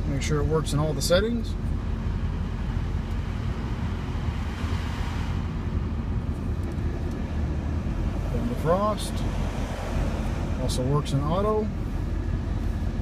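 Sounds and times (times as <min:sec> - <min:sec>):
car engine idling: 0:00.0 - 0:13.0
heater blower fan: 0:00.0 - 0:13.0.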